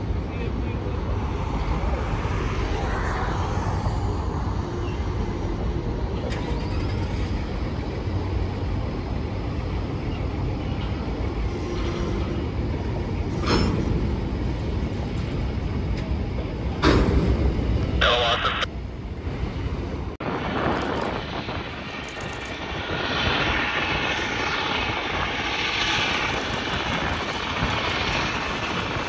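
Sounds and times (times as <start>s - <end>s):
vehicle rumble: 0.0s - 29.0s.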